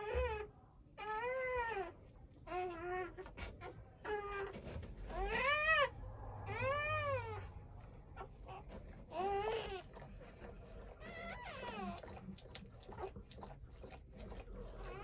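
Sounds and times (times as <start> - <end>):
puppies crying: 0.0 - 15.0.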